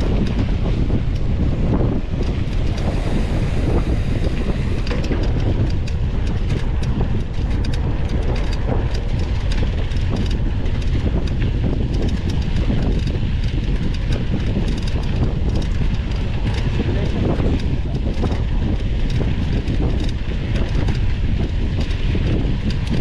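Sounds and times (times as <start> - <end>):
bike rattles and knocks: 0.0 - 23.0
low rumble of bike: 0.0 - 23.0
wind buffeting microphone: 0.0 - 23.0.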